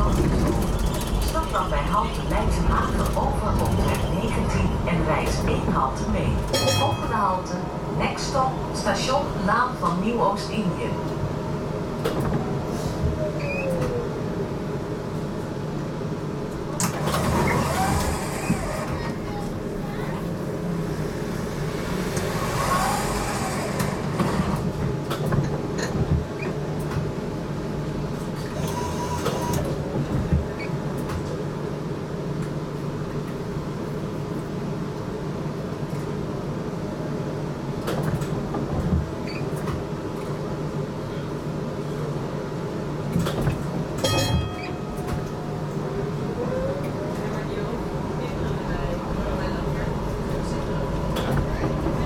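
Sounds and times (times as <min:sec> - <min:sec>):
tram running hum: 0:00.0 - 0:52.0.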